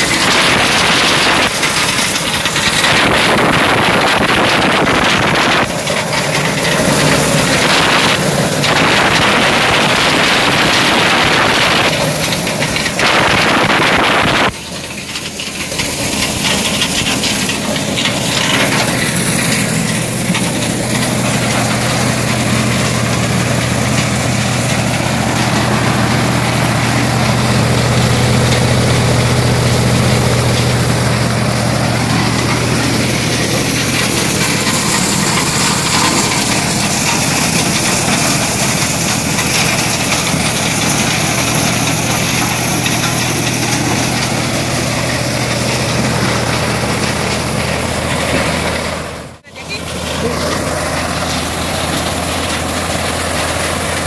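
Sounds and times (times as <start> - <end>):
corn sheller machine din: 0.0 - 54.0.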